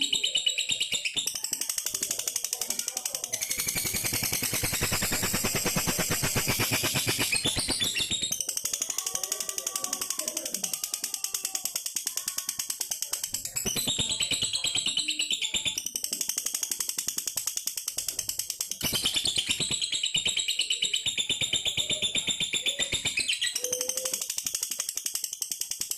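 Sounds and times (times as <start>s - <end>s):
lovebird chattering song: 0.0s - 25.9s.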